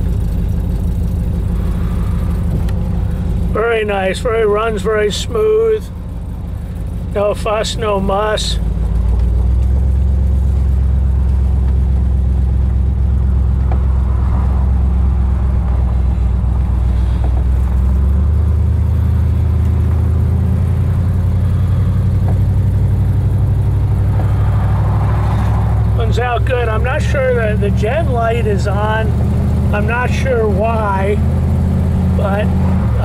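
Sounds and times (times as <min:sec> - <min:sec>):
car engine drone: 0:00.0 - 0:33.0
road noise: 0:00.0 - 0:33.0.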